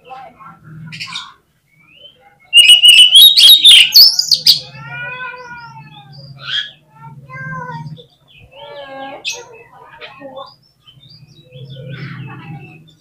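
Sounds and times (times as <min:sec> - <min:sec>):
bird singing: 0:00.6 - 0:13.0.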